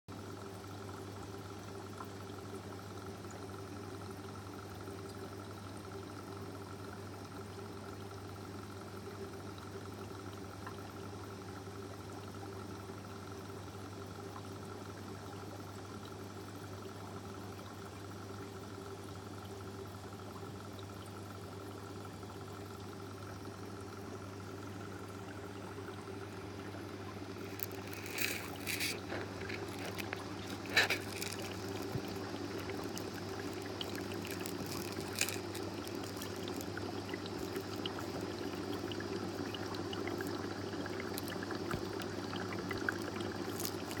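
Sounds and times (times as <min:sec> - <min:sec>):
aquarium water running: 0:00.1 - 0:44.0
steady low hum: 0:00.2 - 0:44.0.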